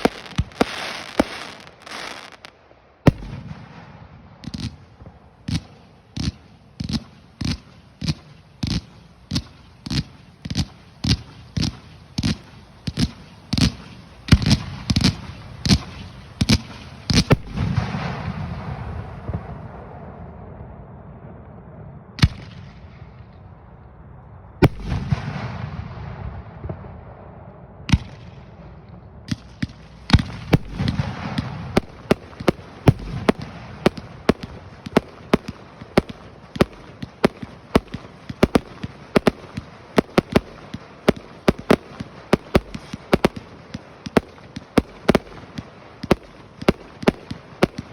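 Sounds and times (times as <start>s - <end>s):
fireworks bangs: 0.0s - 21.6s, 24.6s - 47.9s.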